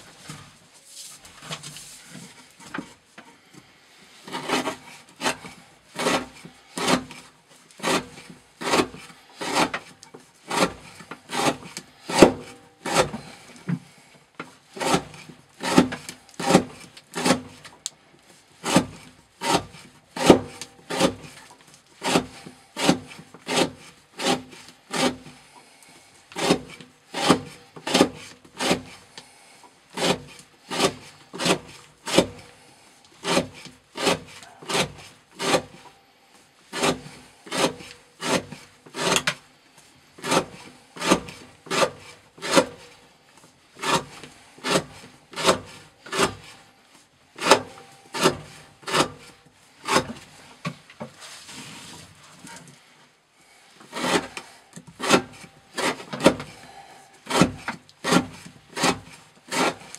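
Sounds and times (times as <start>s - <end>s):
knife blade scraping wood: 0.0s - 18.0s, 18.6s - 36.0s, 36.6s - 39.5s, 40.2s - 46.8s, 47.4s - 52.9s, 53.7s - 59.9s.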